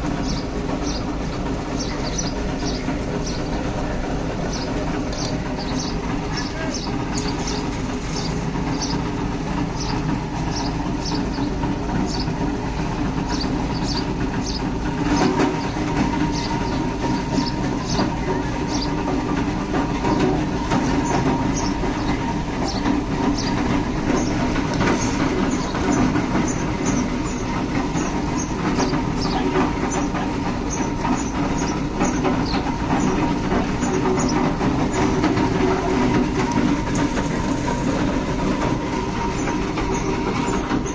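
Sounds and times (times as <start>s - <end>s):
machine engine drone: 0.0s - 40.9s.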